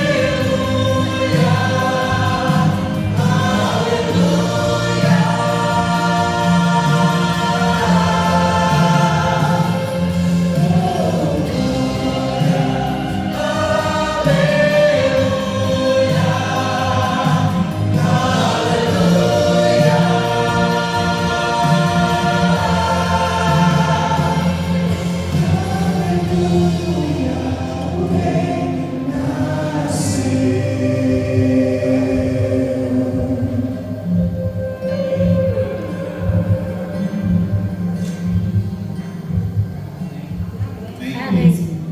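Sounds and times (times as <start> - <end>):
vocal group singing in harmony: 0.0 - 41.9.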